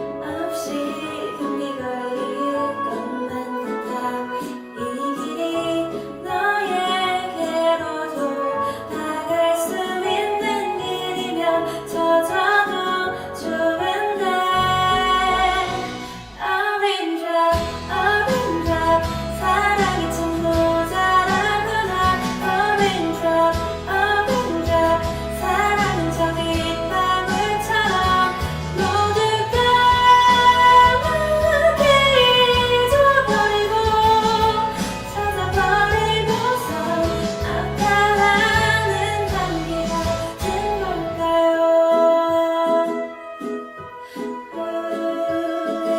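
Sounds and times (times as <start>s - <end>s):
instrumental backing: 0.0s - 45.9s
woman singing: 0.0s - 45.9s.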